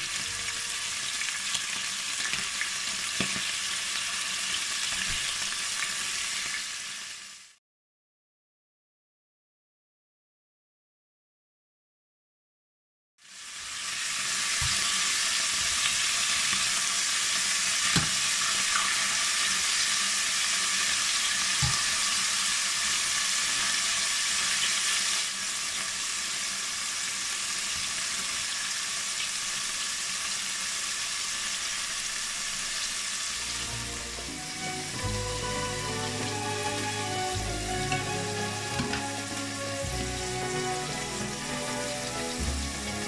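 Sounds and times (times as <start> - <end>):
meat sizzling in oil: 0.0 - 7.6, 13.2 - 43.0.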